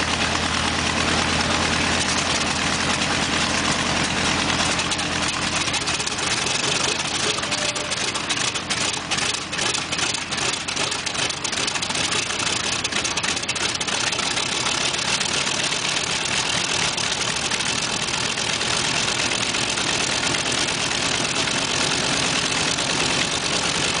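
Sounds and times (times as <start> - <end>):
radial aircraft engine idling: 0.0 - 24.0.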